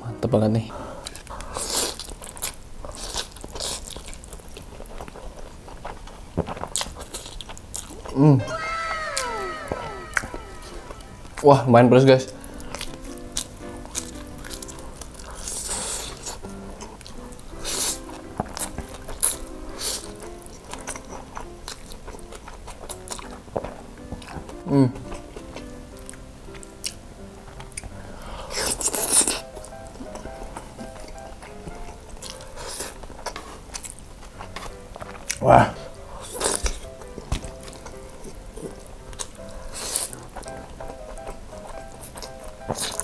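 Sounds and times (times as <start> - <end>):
soft background music: 0.0 - 0.8, 8.2 - 43.0
wet chewing and mouth clicks: 1.0 - 8.4, 12.3 - 43.0.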